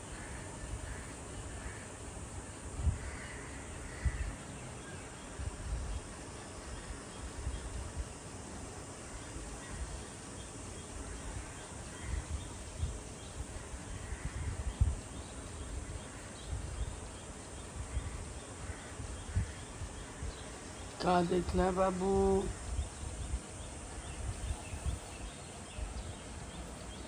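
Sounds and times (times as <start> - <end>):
distant bird calls: 0.0 - 7.8, 9.0 - 27.0
steady hiss: 0.0 - 27.0.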